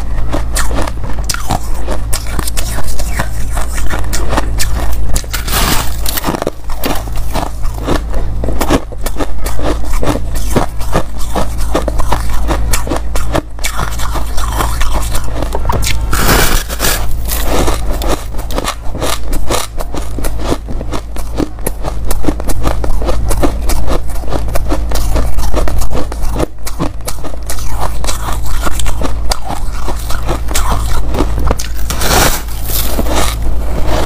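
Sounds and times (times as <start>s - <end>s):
ice being chewed: 0.0s - 34.0s.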